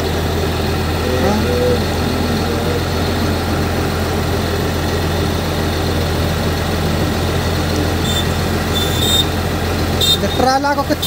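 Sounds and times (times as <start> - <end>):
heavy machine engine humming: 0.0 - 11.0.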